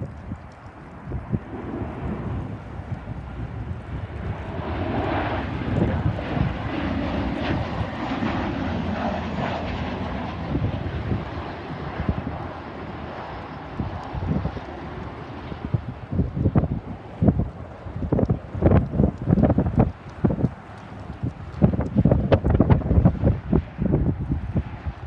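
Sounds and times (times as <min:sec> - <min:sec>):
airliner engines rushing: 0:00.0 - 0:25.0
wind rumbling on microphone: 0:00.0 - 0:25.0.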